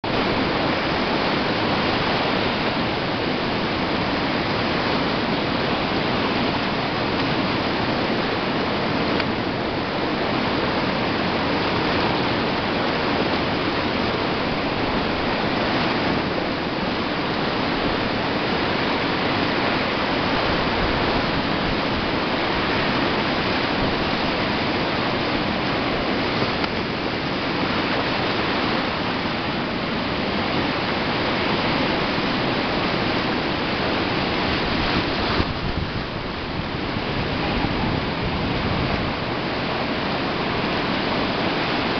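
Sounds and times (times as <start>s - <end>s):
rush of churning water: 0.0s - 41.9s.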